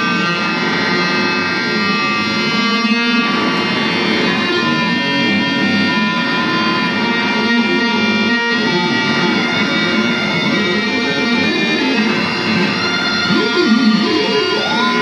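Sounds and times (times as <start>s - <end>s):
electric guitar drones: 0.0s - 15.0s.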